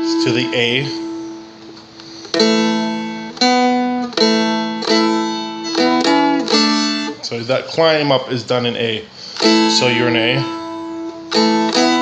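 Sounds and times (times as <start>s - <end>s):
dulcimer strumming: 0.0s - 8.2s, 9.2s - 12.0s.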